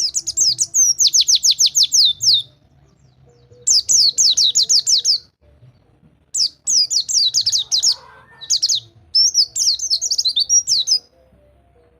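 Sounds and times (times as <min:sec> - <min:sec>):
bird singing rapid falling notes: 0:00.0 - 0:11.9.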